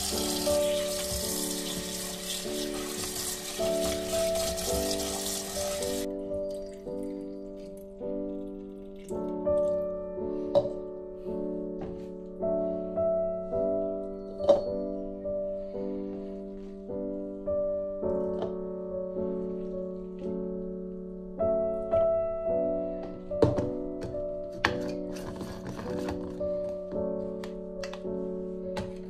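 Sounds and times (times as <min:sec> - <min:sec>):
gentle piano chords: 0:00.0 - 0:29.0.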